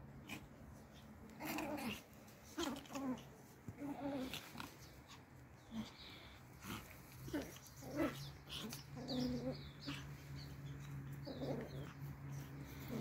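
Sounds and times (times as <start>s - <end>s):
puppies growling: 0.2s - 13.0s.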